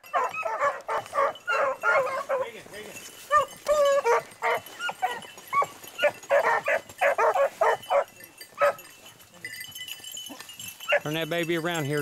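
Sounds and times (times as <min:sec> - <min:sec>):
dogs yelping: 0:00.0 - 0:09.0, 0:10.3 - 0:11.2.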